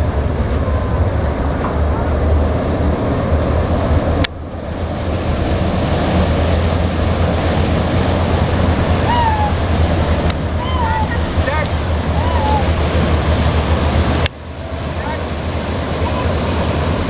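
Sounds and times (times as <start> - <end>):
lake water splashing: 0.0 - 17.0
wind rumbling on microphone: 0.0 - 17.0.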